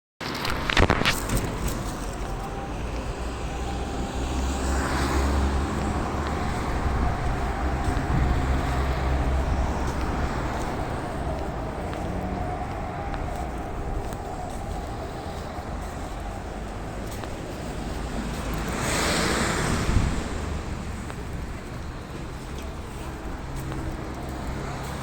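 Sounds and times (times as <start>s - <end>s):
road traffic rumble: 0.2s - 25.0s
vehicle passing with low rumble: 0.3s - 25.0s.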